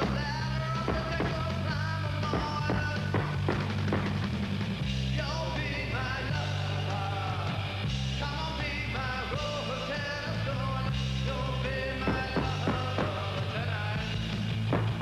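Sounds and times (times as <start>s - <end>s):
rock and roll music with singing: 0.0s - 15.0s
steady bass line: 0.0s - 15.0s.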